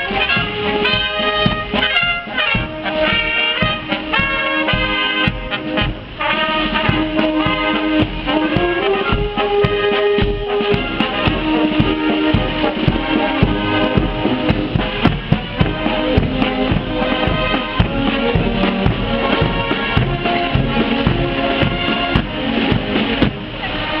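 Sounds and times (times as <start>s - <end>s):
busy drum beat: 0.0s - 24.0s
pitched instruments playing tune: 0.0s - 24.0s.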